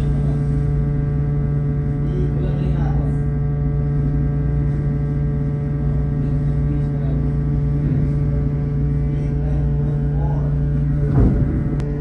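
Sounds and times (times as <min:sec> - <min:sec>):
ship machinery humming: 0:00.0 - 0:12.0.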